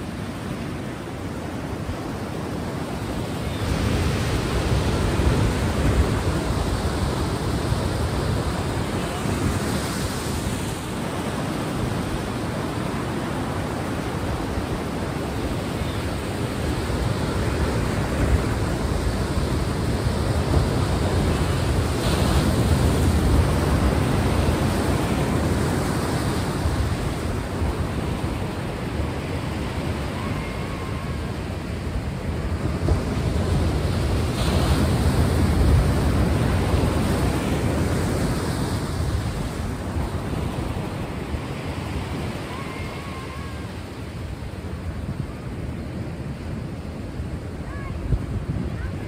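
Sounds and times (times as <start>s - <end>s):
sea waves washing on shore: 0.0s - 49.0s.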